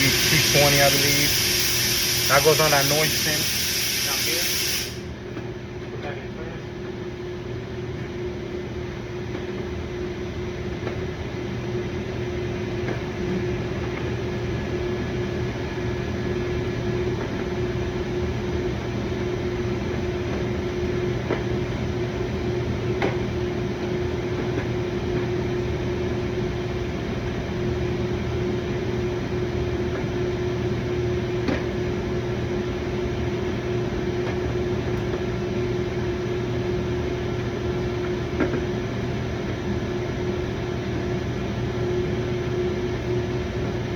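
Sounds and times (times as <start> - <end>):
mechanical hum: 0.0 - 43.9.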